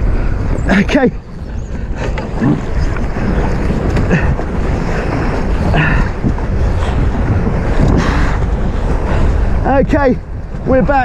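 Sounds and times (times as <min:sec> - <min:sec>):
water rushing along hulls: 0:00.0 - 0:11.0
wind buffeting microphone: 0:00.0 - 0:11.0.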